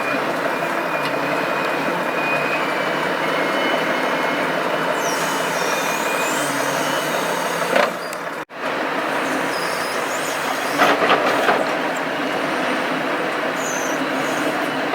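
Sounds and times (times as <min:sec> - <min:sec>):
timber crane working: 0:00.0 - 0:14.9
truck diesel engine running: 0:00.0 - 0:14.9.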